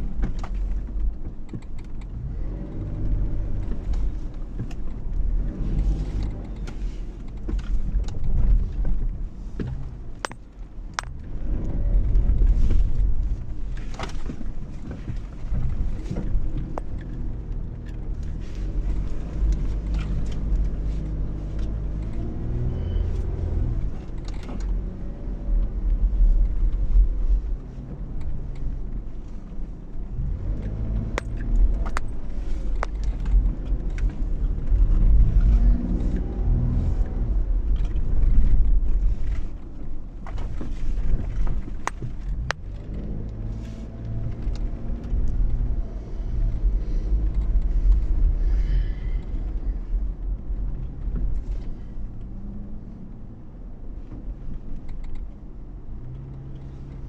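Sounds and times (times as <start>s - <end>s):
suv engine driving off-road: 0.0s - 57.0s.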